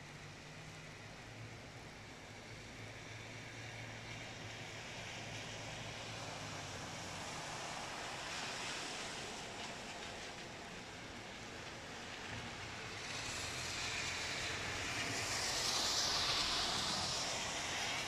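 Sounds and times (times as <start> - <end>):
rain on a wet street: 0.1 - 18.0.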